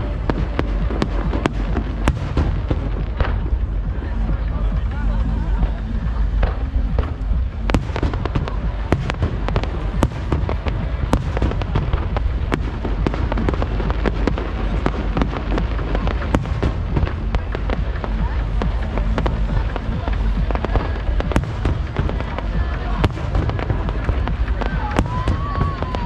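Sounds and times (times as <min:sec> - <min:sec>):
deep rumble: 0:00.0 - 0:26.0
fireworks bangs and crackling: 0:00.0 - 0:26.0.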